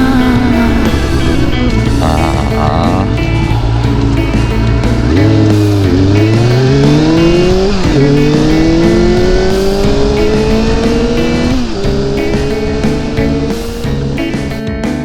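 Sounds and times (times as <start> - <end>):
background music: 0.0 - 15.0
motorcycle engine accelerating: 0.0 - 15.0.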